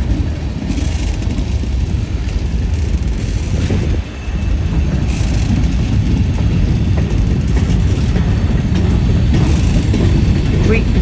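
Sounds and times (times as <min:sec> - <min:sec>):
freight train rolling on rails: 0:00.0 - 0:11.0.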